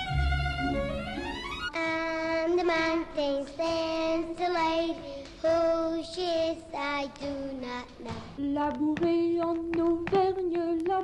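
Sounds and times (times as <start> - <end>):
child singing: 1.7 - 11.0.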